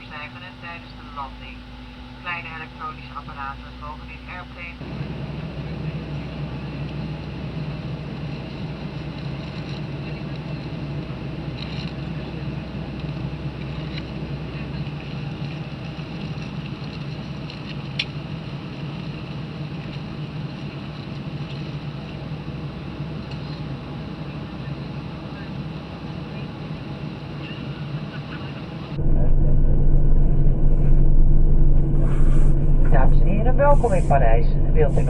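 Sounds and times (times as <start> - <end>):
airplane cabin engine drone: 0.0 - 35.0.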